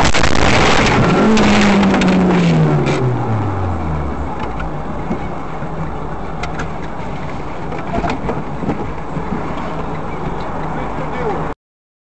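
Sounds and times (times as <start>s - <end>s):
car engine hum: 0.0s - 11.6s
low road rumble: 0.0s - 11.6s.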